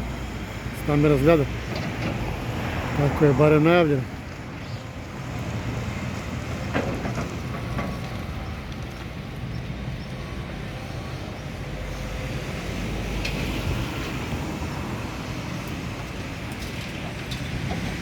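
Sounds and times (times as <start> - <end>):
city road traffic: 0.0 - 18.0.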